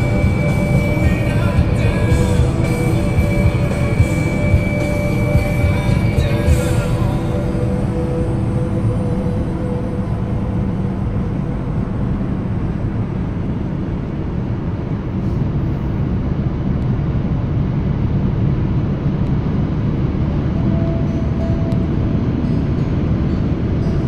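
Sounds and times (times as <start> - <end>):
car road noise from inside: 0.0 - 24.0.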